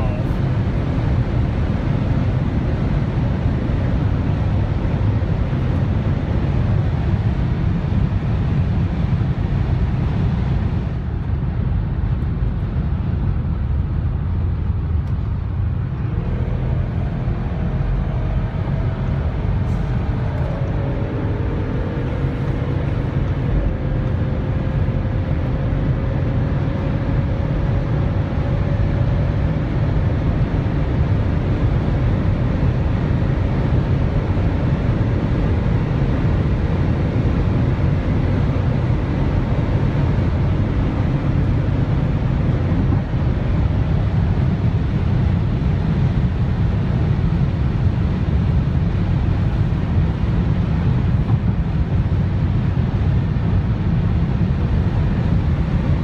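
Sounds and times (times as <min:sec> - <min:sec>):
car engine droning: 0:00.0 - 0:56.0
wind and road noise in car: 0:00.0 - 0:56.0.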